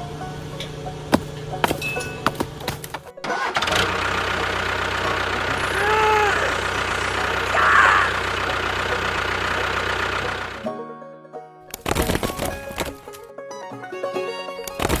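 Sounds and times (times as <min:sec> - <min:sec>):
small engine idling: 0:00.0 - 0:10.7, 0:11.7 - 0:13.3, 0:14.6 - 0:15.0.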